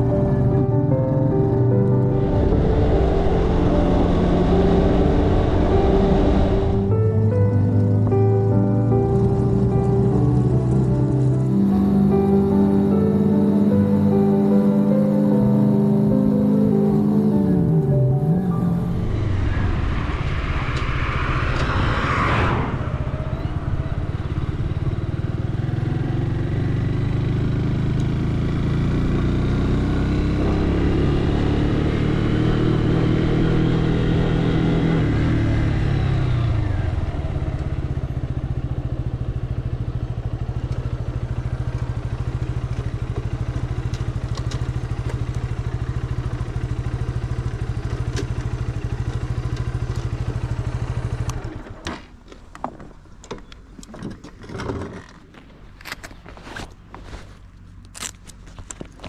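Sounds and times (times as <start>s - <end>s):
motorcycle engine running: 0.0s - 19.6s, 23.1s - 51.9s.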